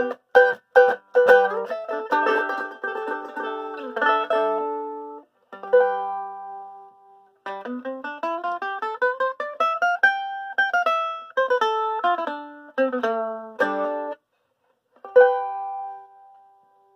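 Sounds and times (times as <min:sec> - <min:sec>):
mandolin playing: 0:00.0 - 0:14.3, 0:14.9 - 0:16.9.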